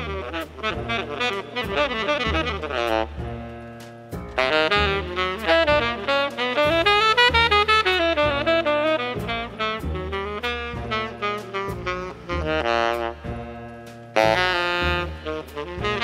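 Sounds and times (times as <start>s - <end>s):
live jazz ensemble: 0.0s - 16.0s
saxophone melody: 0.0s - 16.0s
walking bass line: 0.0s - 16.0s.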